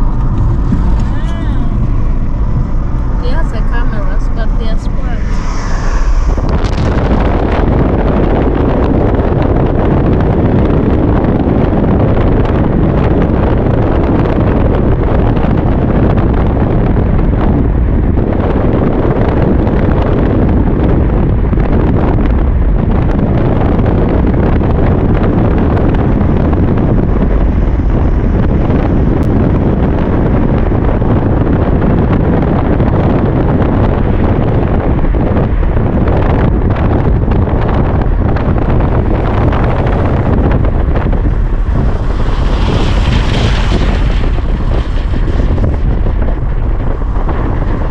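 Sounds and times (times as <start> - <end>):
moving vehicle rumble: 0.0 - 47.9
wind buffeting microphone: 0.0 - 47.9.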